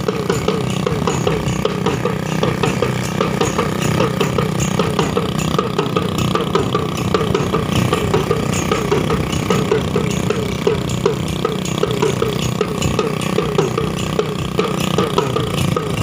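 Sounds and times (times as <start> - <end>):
motorcycle engine running: 0.0 - 16.0
wooden cart rattling: 0.0 - 16.0.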